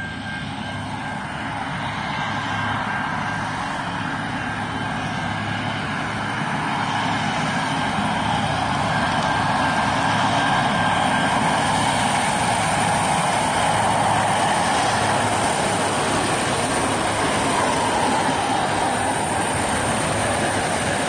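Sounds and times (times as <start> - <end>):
diesel train passing: 0.0 - 21.0.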